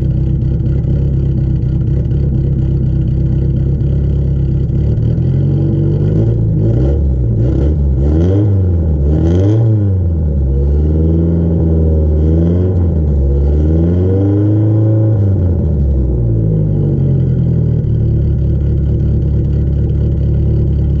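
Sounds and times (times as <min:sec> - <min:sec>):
car engine revving and idling: 0:00.0 - 0:21.0.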